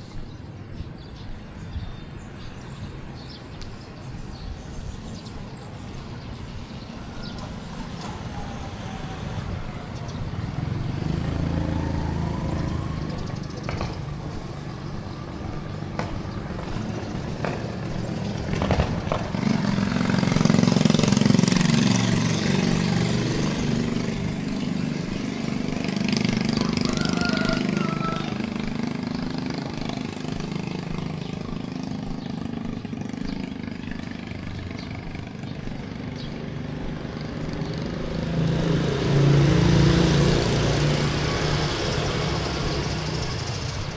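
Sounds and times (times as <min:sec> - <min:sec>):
traffic engines passing by: 0:00.0 - 0:43.9.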